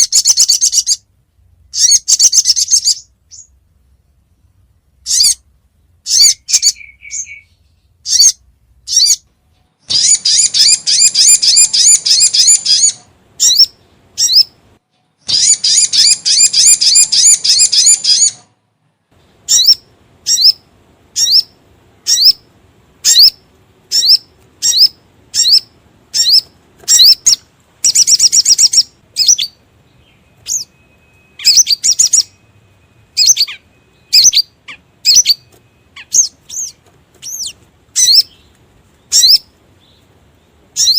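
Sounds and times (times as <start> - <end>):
bird chips and trills: 0.0 - 1.0, 1.7 - 3.6, 6.0 - 9.3, 9.9 - 14.6, 15.2 - 18.4, 19.4 - 40.9.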